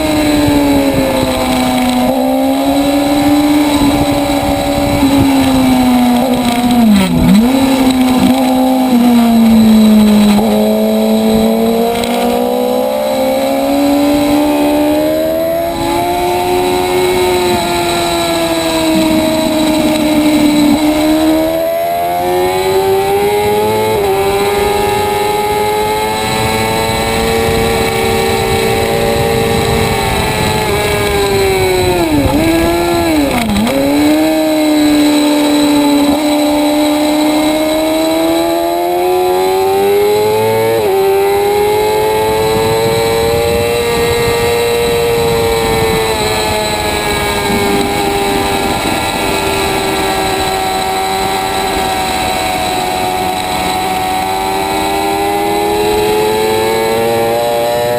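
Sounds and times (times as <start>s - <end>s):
motorcycle engine at high revs: 0.0s - 57.9s.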